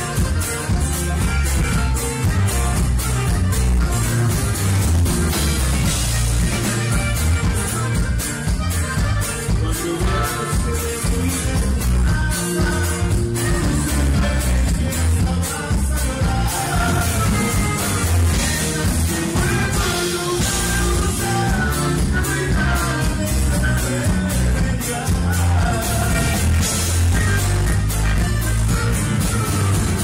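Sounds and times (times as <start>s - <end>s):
live band music: 0.0s - 30.0s.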